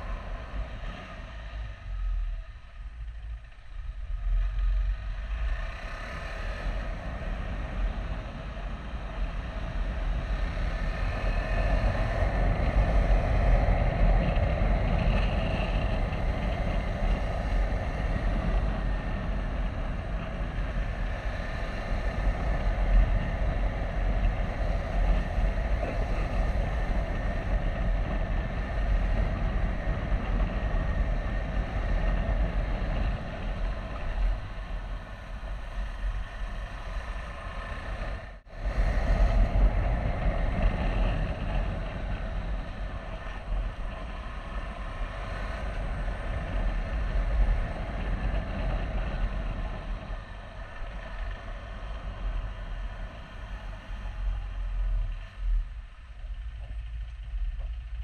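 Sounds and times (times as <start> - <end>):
wind rush over microphone: 0.0 - 58.0.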